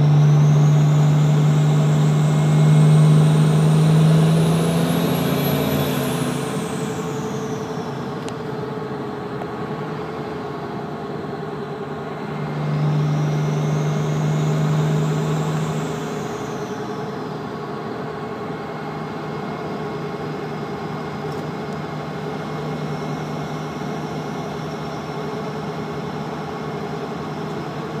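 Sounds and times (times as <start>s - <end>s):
diesel engine pulling: 0.0s - 28.0s.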